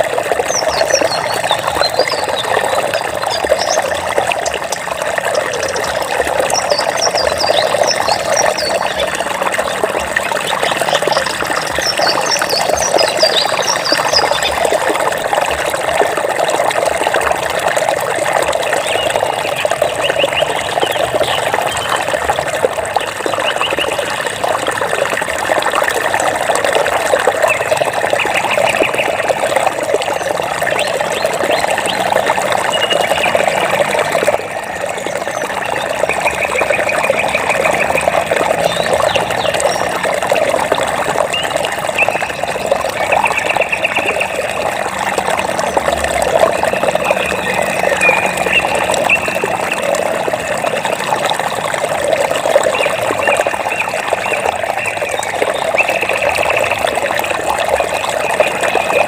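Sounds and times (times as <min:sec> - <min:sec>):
water babbling in stream: 0:00.0 - 0:59.0.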